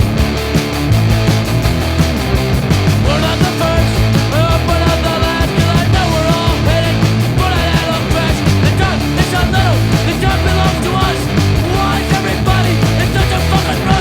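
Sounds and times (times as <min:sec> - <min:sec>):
loud rock music: 0:00.0 - 0:14.0.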